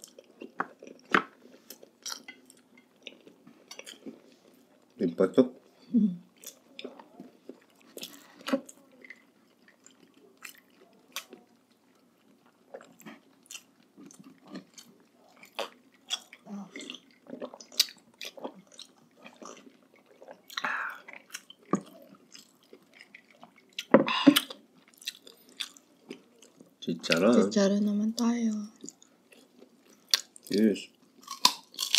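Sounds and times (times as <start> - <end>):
chewing and mouth sounds: 0.0 - 5.0, 5.6 - 27.5, 28.5 - 31.9.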